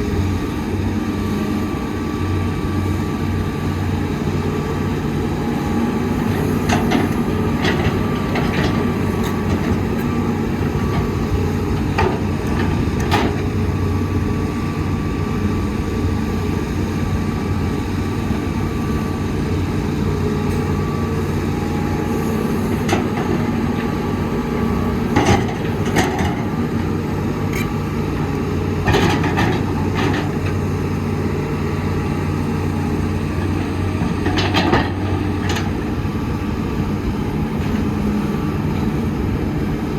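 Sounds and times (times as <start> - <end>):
diesel earthmoving machinery running: 0.0 - 39.9.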